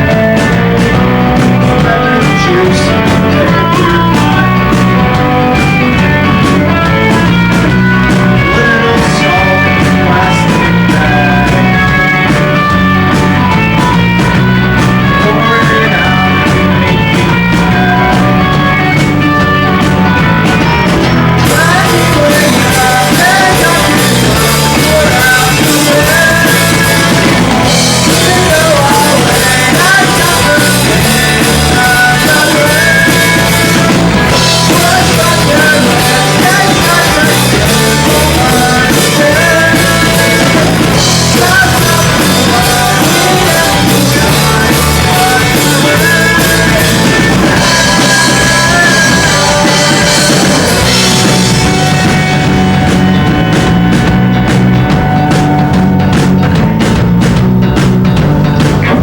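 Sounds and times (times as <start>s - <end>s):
bass guitar: 0.0s - 59.0s
drums and cymbals: 0.0s - 59.0s
electric guitar: 0.0s - 59.0s.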